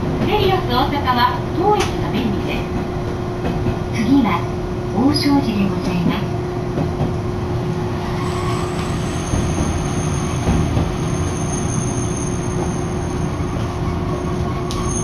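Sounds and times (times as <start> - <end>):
streetcar wheels rumbling on rails: 0.0 - 15.0.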